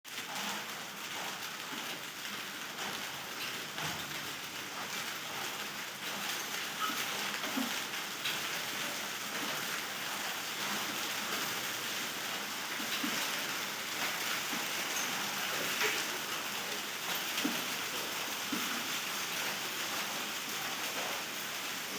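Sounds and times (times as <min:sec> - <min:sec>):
rain falling: 0:00.1 - 0:21.9
raindrops tapping on surface: 0:00.1 - 0:21.9.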